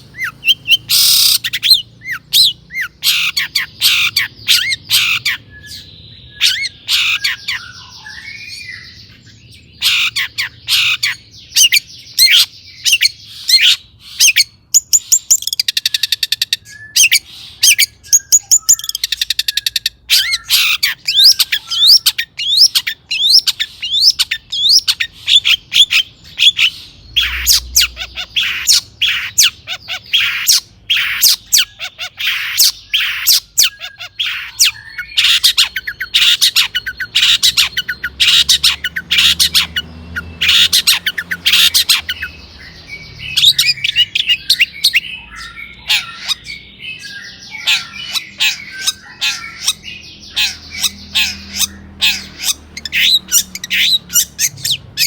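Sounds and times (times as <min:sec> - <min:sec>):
bird warbling chatter: 0:00.0 - 0:55.0.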